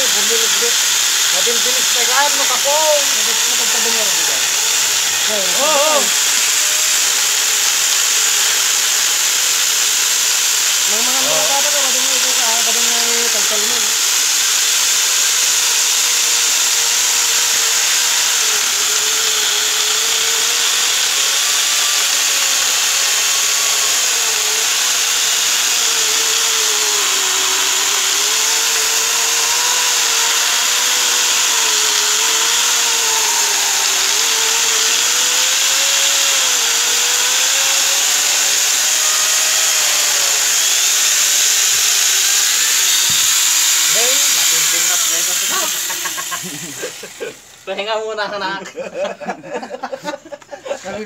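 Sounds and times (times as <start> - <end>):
chainsaw attachment cutting log: 0.0 - 47.8.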